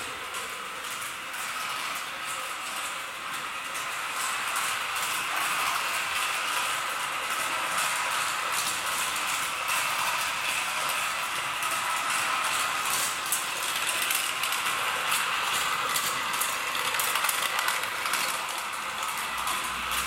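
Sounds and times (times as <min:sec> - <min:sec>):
wheels clattering on track: 0:00.0 - 0:20.0.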